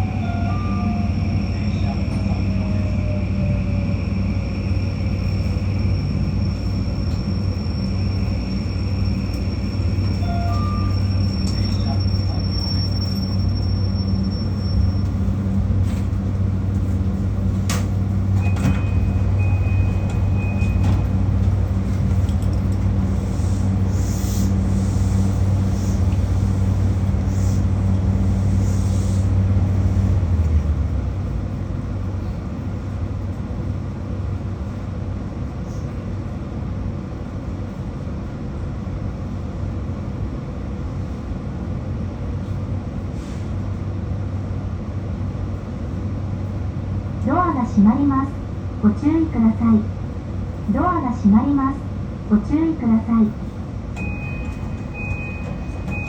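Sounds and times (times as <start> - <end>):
train low hum: 0.0 - 56.0
train running noise: 0.0 - 56.0.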